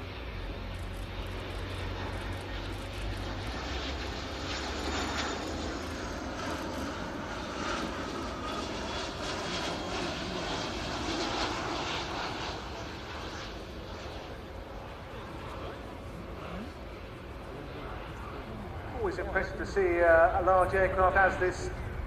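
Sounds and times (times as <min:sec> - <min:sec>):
jet engine rumble with whine: 0:00.0 - 0:22.0.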